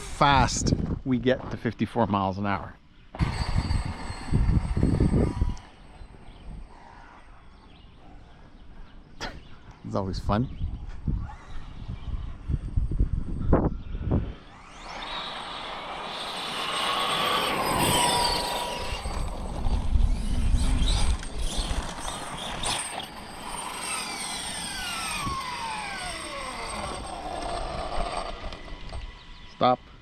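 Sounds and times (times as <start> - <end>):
electric motor whine: 0.0 - 0.6, 3.2 - 9.0, 10.5 - 30.0.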